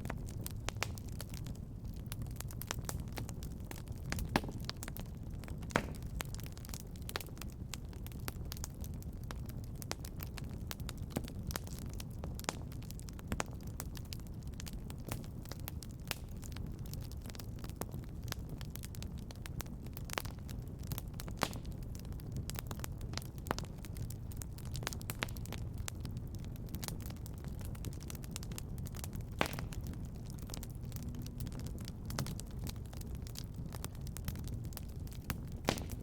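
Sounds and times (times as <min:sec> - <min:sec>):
fire crackling: 0:00.0 - 0:36.0.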